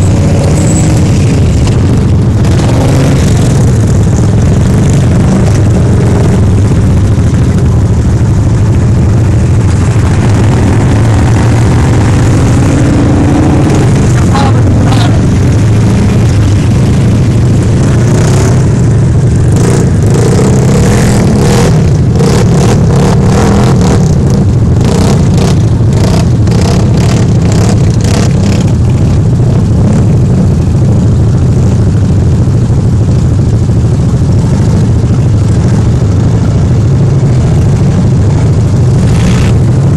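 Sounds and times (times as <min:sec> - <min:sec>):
off-road vehicle engines running: 0:00.0 - 0:39.9.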